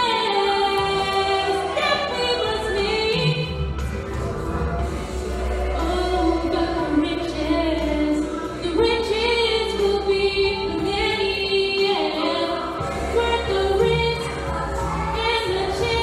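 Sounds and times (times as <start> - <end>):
woman singing into a microphone: 0.0 - 3.7, 5.6 - 16.0.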